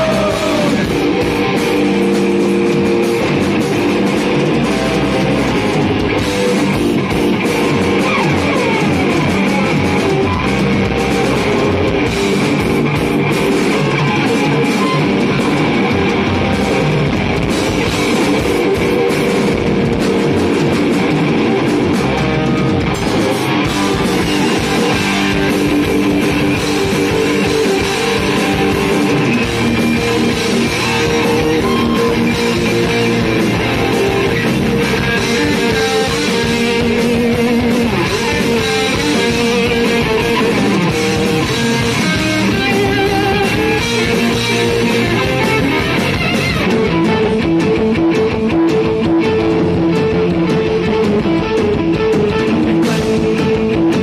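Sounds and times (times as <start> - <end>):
drums: 0.0 - 54.0
electric guitars: 0.0 - 54.0.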